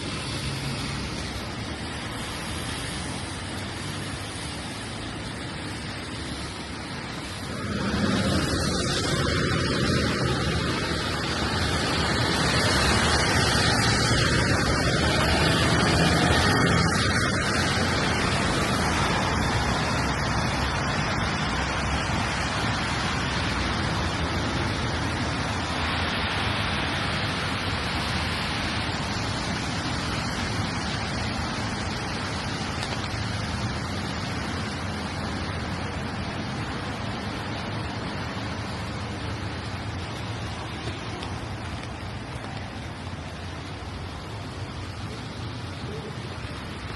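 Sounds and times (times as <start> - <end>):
rain on a wet street: 0.0 - 46.9.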